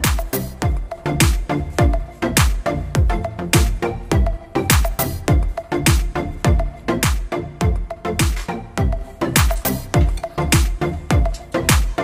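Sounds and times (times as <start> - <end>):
music with deep kick drums: 0.0 - 12.0.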